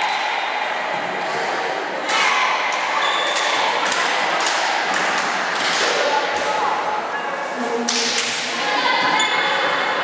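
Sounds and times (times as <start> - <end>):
sports hall hubbub: 0.0 - 10.0.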